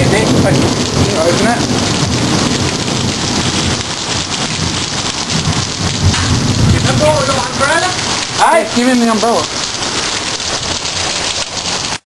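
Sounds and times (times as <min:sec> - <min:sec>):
heavy rain on hard surfaces: 0:00.0 - 0:12.0.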